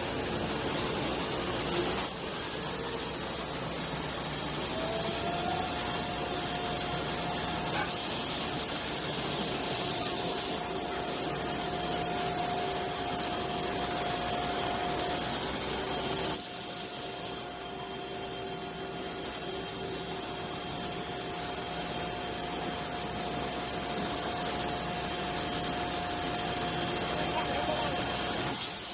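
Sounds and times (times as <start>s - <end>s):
machine grinding hiss: 0.0s - 17.6s, 23.0s - 28.9s.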